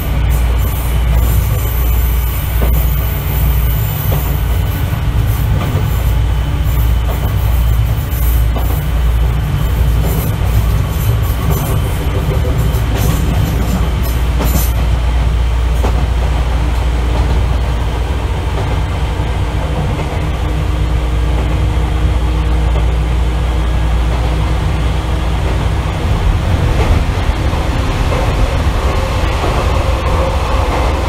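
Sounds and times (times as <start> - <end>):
train motors and wheels rumbling: 0.0 - 31.0.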